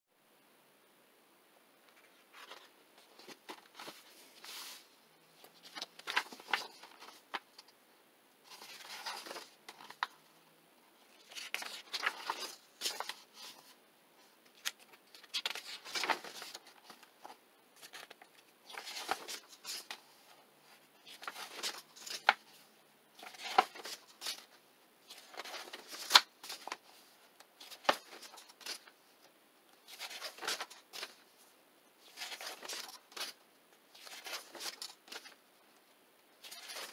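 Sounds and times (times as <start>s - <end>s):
book pages turning and rustling: 1.9s - 7.8s, 8.5s - 10.2s, 11.1s - 13.8s, 14.5s - 29.0s, 29.8s - 35.4s, 36.4s - 36.9s.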